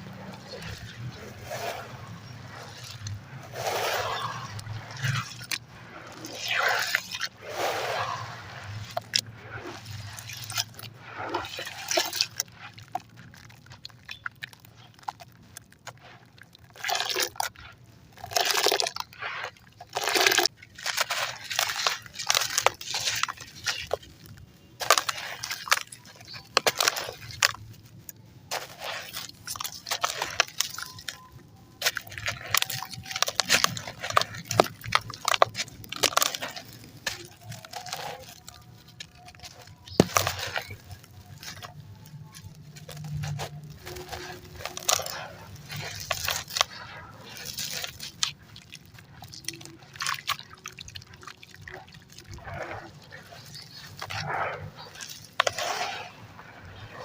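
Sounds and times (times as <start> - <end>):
concrete being crushed: 8.0 - 57.0.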